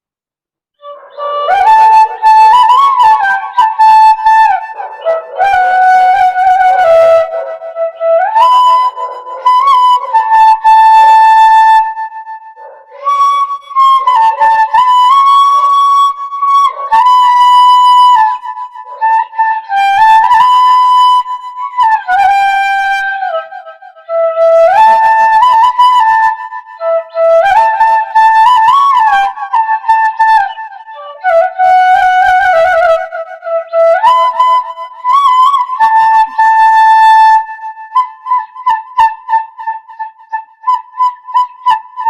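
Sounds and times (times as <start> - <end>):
bamboo flute melody: 0.8 - 42.0.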